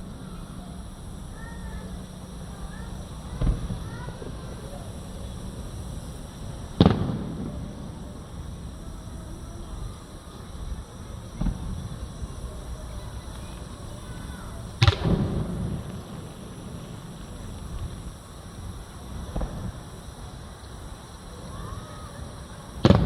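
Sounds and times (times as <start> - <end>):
rolling rumble: 0.0 - 21.5
distant fireworks booms: 0.0 - 23.0.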